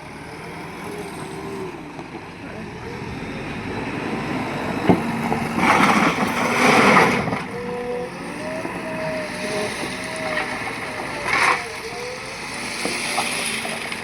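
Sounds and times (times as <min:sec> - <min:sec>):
backhoe diesel engine under load: 0:00.0 - 0:14.0
wavering whine: 0:00.0 - 0:14.0.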